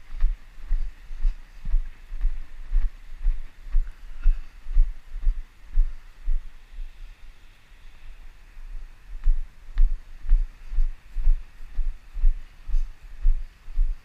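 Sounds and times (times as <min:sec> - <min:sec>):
walking footsteps thuds: 0:00.0 - 0:06.5, 0:09.1 - 0:14.0.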